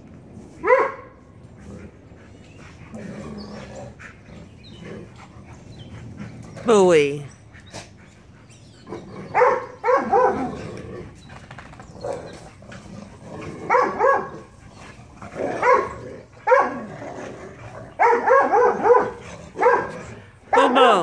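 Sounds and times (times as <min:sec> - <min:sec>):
dogs barking and yipping: 0:00.5 - 0:06.7, 0:07.3 - 0:21.0.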